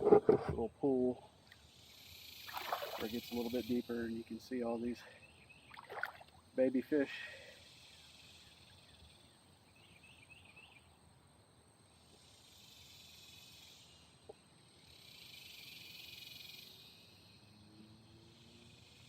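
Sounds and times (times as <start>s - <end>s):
insects buzzing faintly: 0.0s - 19.0s.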